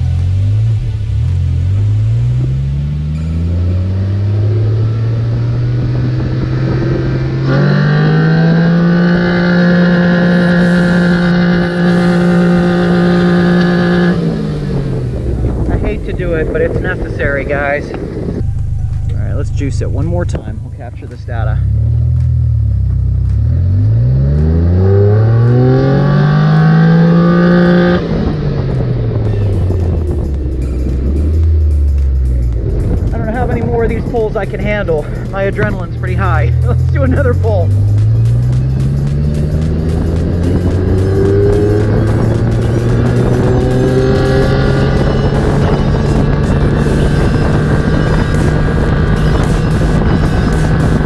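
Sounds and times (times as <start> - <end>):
buggy engine accelerating hard: 0.0 - 51.0.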